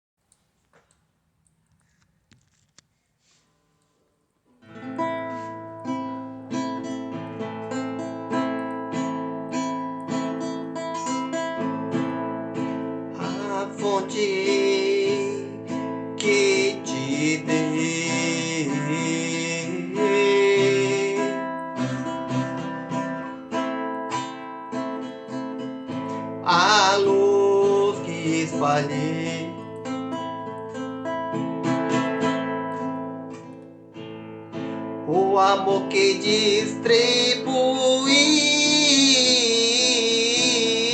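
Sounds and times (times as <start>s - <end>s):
acoustic guitar strumming: 4.5s - 40.9s.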